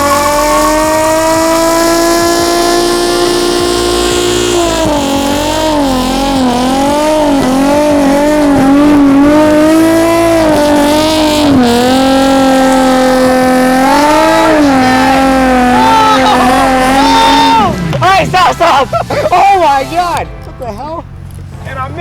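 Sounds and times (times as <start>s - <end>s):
car engine at high revs: 0.0s - 22.0s
tyres spinning: 3.9s - 22.0s.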